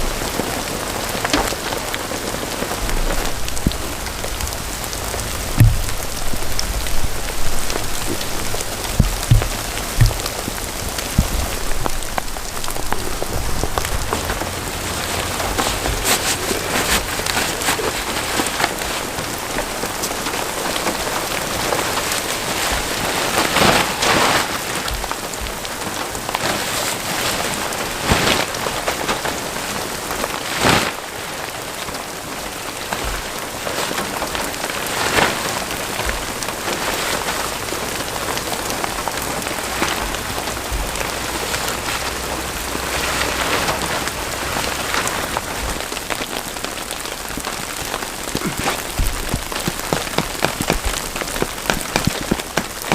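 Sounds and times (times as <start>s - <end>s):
heavy rain falling: 0.0s - 52.9s
sharp raindrop impacts: 0.0s - 52.9s.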